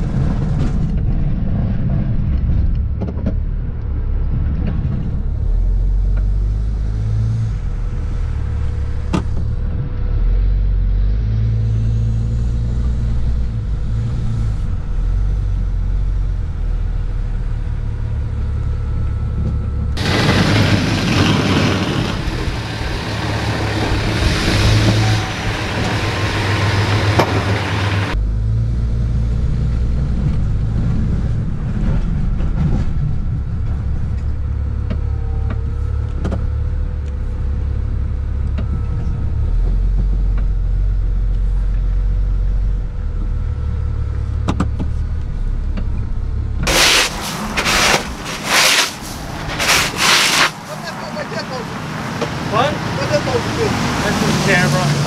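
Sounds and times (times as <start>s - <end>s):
truck engine droning in cab: 0.0s - 55.0s
truck plowing snow outdoors: 0.0s - 55.0s.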